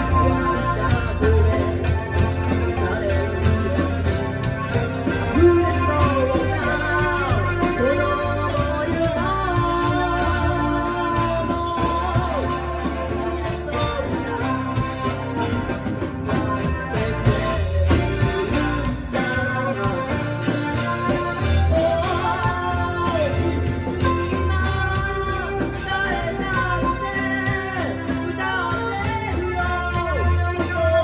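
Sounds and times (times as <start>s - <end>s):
live pop-rock band: 0.0s - 31.0s
person singing: 0.0s - 31.0s.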